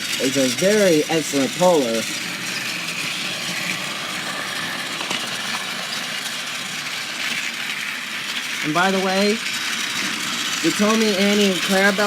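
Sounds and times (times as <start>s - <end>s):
toy coaches rattling: 0.0s - 12.0s
toy train motor whirring: 0.0s - 12.0s.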